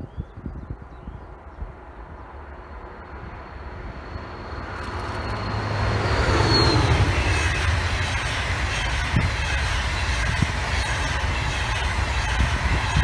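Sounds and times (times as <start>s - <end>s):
train rumbling on tracks: 0.7s - 13.0s.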